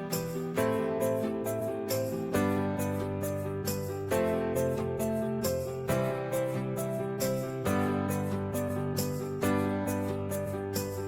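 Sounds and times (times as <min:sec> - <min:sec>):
plucked string music with light beat: 0:00.0 - 0:11.0.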